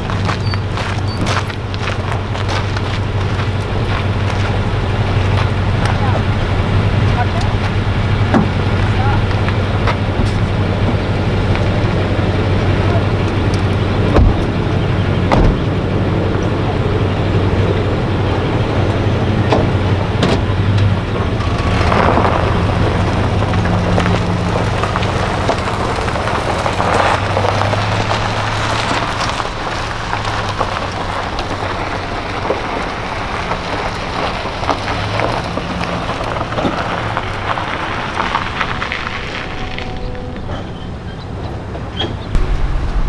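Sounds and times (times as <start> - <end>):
truck engine running low: 0.0 - 43.0
tyres crunching on gravel: 0.0 - 43.0.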